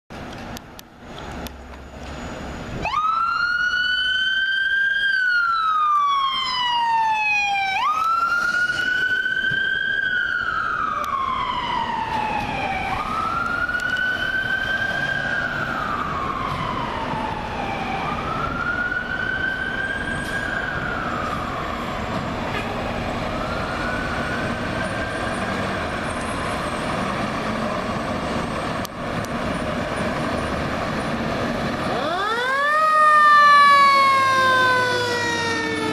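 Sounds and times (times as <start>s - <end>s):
fire truck siren wailing: 1.8s - 35.9s.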